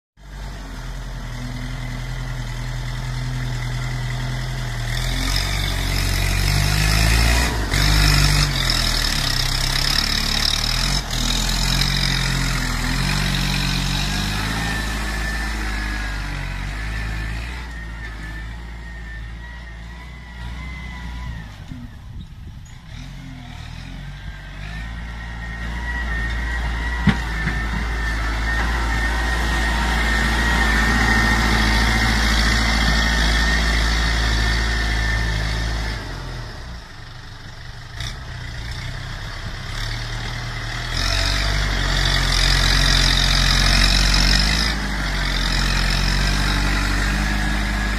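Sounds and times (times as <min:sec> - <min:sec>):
tractor diesel engine working: 0:00.2 - 0:47.9.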